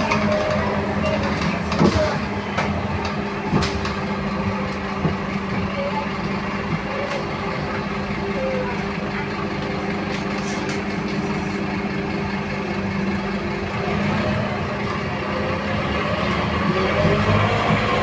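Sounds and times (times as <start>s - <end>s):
bus diesel engine drone: 0.0s - 18.0s.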